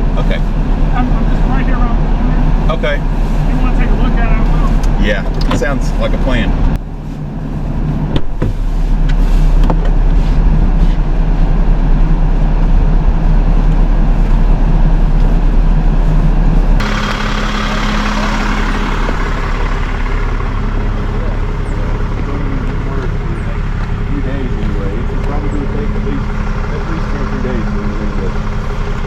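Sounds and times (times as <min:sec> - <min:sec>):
truck engine hum from cab: 0:00.0 - 0:29.0.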